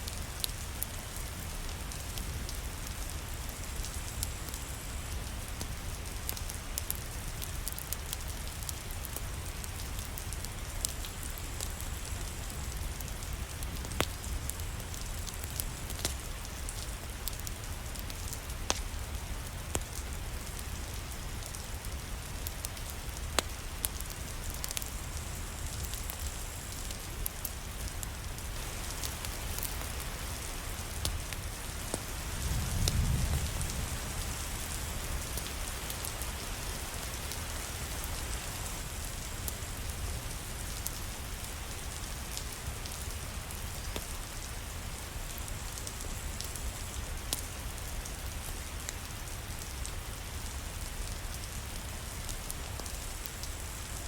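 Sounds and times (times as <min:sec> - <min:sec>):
sharp ticks of raindrops: 0:00.0 - 0:54.0
steady rain: 0:00.0 - 0:54.0.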